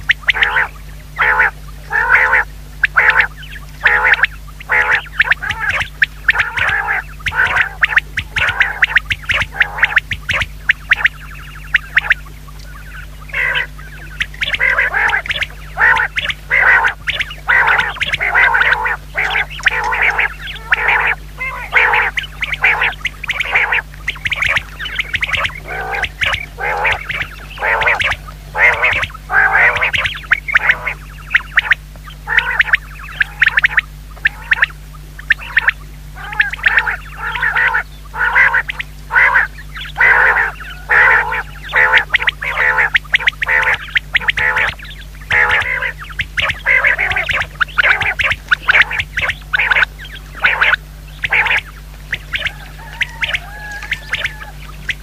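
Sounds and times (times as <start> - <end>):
quail calling: 0.0 - 55.0.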